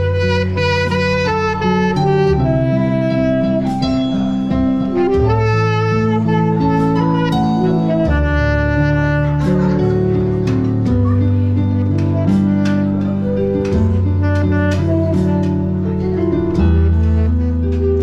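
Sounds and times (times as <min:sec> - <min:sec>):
jazz-like instrumental music: 0:00.0 - 0:18.0.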